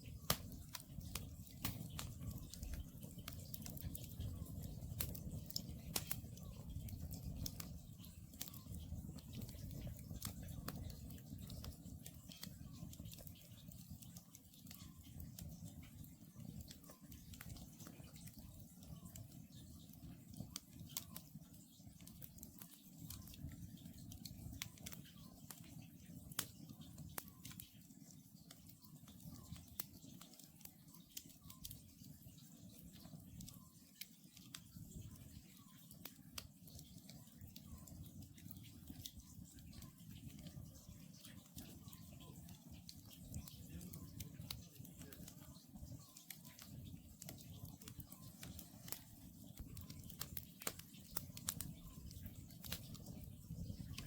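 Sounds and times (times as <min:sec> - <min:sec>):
campfire crackling and popping: 0:00.0 - 0:54.0
low hum of flame: 0:00.0 - 0:54.0.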